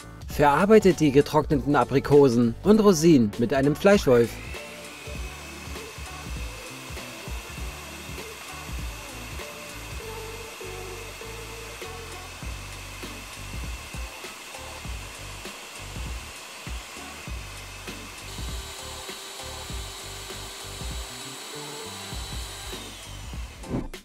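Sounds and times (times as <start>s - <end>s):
meat grinder motor whining: 3.8s - 24.0s.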